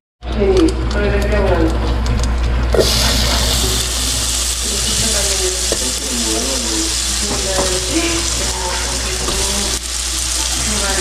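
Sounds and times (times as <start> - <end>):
shrimp sizzling in hot fat: 0.7 - 11.0.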